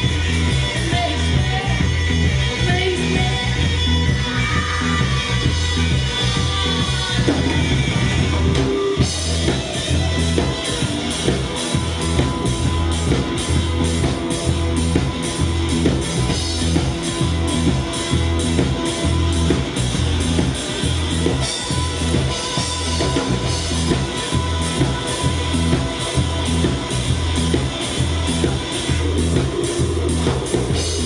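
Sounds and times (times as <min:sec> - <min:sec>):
bass guitar: 0:00.0 - 0:31.0
drum kit beat: 0:00.0 - 0:31.0
electric guitar: 0:00.0 - 0:31.0.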